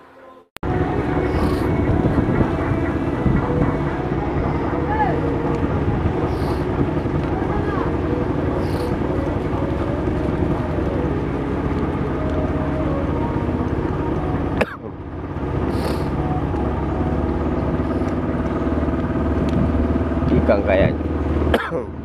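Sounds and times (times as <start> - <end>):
boat motor running: 0.6 - 22.0.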